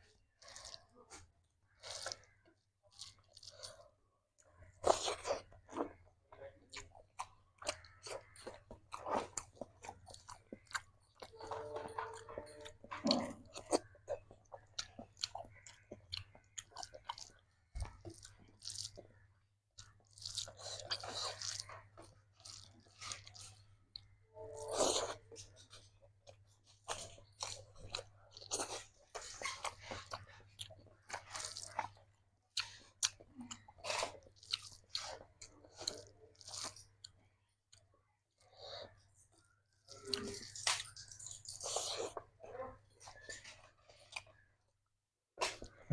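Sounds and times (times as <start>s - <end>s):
person chewing food: 0.0s - 44.7s, 45.4s - 45.9s.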